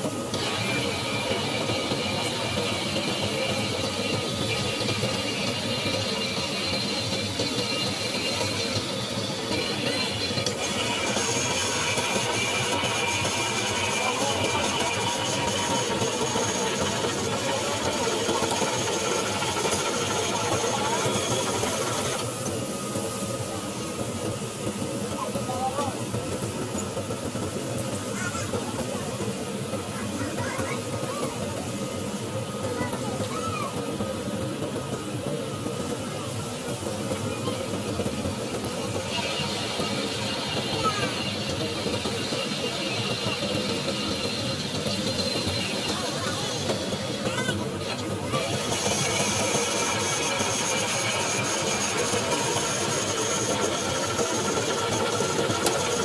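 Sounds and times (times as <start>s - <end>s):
boat machinery running: 0.0s - 56.0s.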